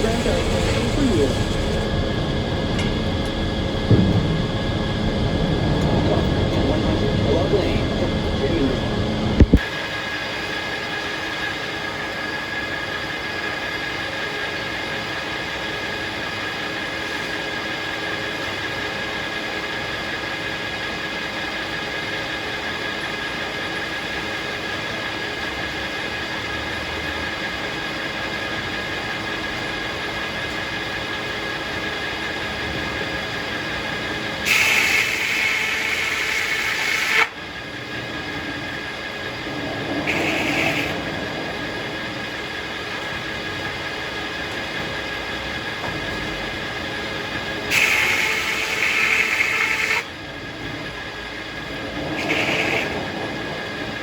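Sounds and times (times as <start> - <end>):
circular sawmill running: 0.0 - 54.0.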